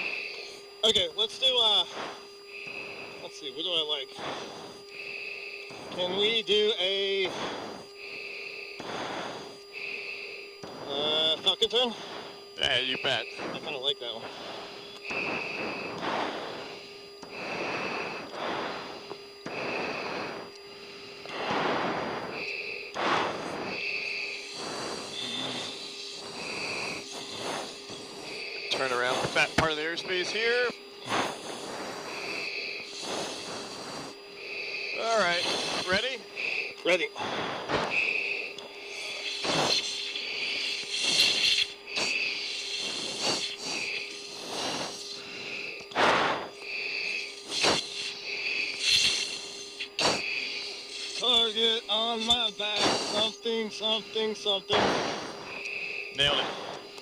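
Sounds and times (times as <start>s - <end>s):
breathing into oxygen mask: 0.0s - 57.0s
cockpit hum: 0.0s - 57.0s.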